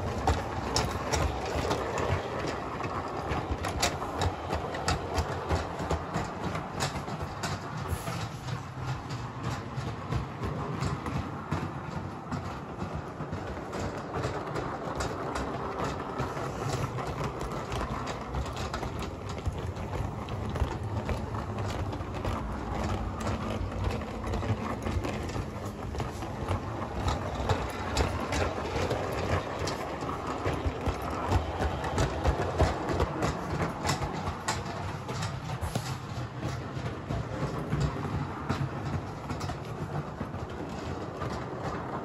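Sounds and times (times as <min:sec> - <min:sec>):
model train rolling rumble: 0:00.0 - 0:42.0
wheels clicking over rail joints: 0:00.0 - 0:42.0.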